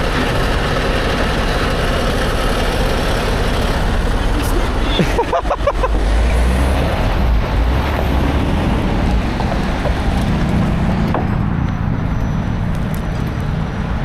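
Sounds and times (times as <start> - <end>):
heavy low rumble: 0.0 - 14.0
motor vehicle running: 0.0 - 14.0
road noise: 0.0 - 14.0.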